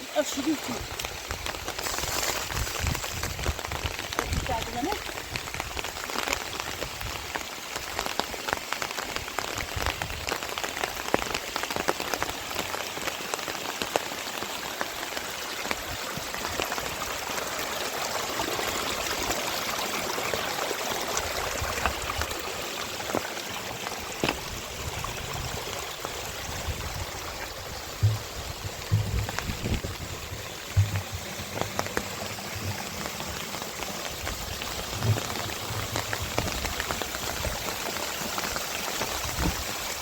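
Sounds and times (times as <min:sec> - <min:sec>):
heavy rain falling: 0:00.0 - 0:40.0
raindrops ticking close by: 0:00.0 - 0:40.0.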